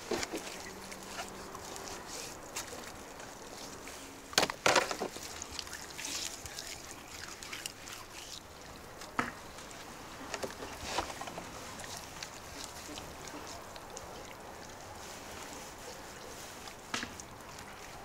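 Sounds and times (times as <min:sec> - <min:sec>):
wet fish squelching in hands: 0:00.0 - 0:18.0.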